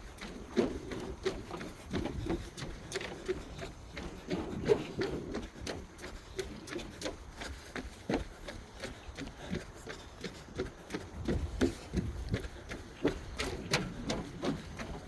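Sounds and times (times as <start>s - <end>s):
footsteps on a path: 0.0s - 15.0s.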